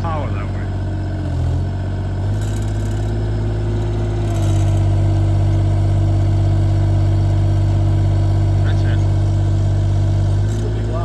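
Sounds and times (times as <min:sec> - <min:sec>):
mini excavator diesel engine: 0:00.0 - 0:11.0.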